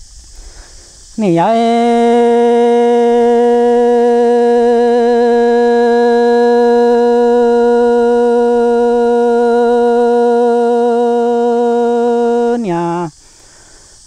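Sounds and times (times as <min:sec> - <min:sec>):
person singing long vowel: 0:01.2 - 0:13.2.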